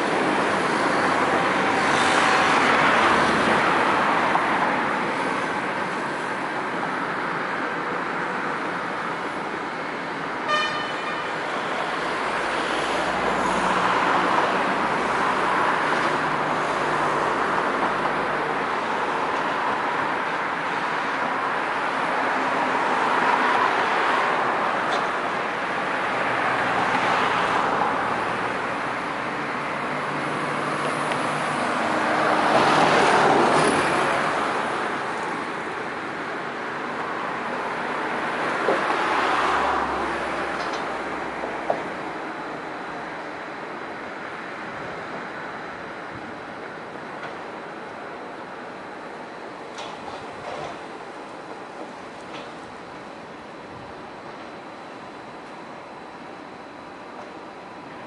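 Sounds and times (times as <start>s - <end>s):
road traffic noise: 0.0s - 58.0s.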